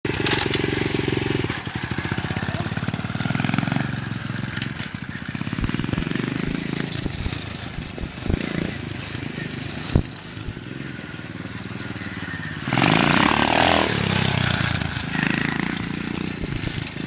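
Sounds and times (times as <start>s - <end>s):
dirt bike engine running: 0.1s - 17.0s.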